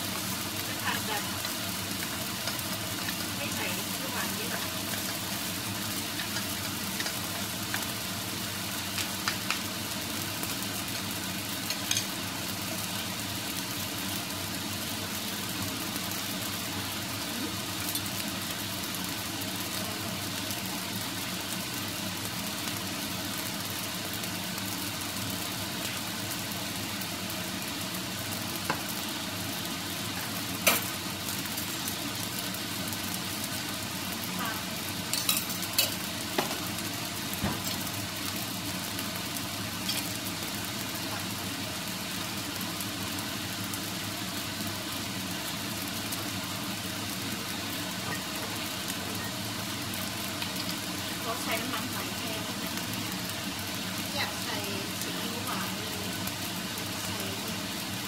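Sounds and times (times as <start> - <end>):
rice sizzling in a pan: 0.0 - 58.0.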